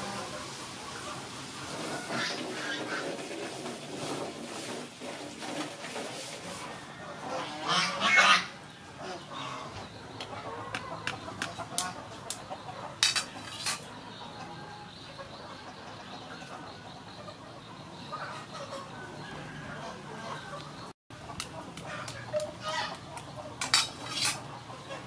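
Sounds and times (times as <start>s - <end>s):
farmyard bird calling: 0.0s - 25.0s.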